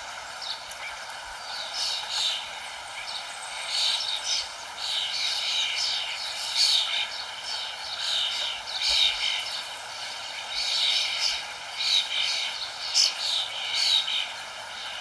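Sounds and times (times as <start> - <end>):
birds chirping: 0.0 - 15.0
steady hiss: 0.0 - 15.0.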